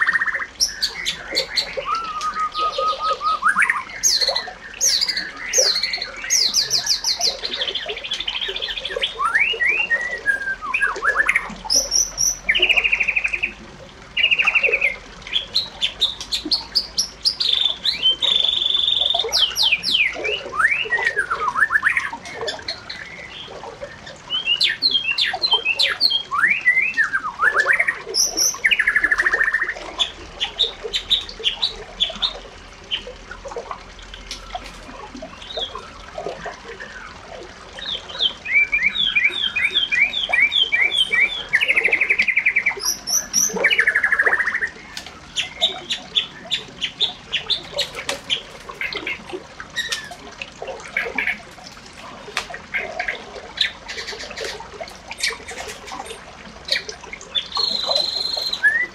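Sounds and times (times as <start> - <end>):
birds chirping and calling: 0.0 - 58.9.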